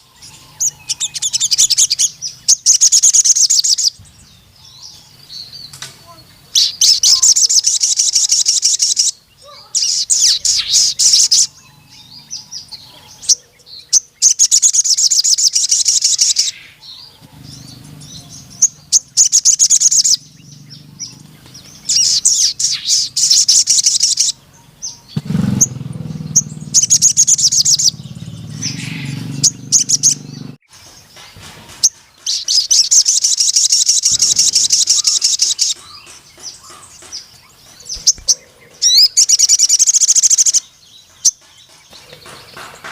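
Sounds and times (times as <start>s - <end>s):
bird trilling song: 0.0s - 42.9s.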